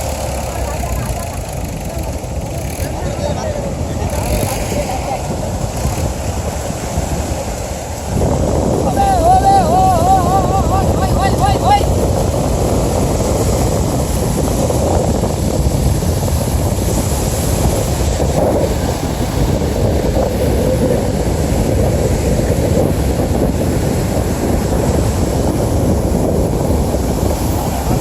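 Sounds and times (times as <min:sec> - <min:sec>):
wind rumble on microphone: 0:00.0 - 0:28.0.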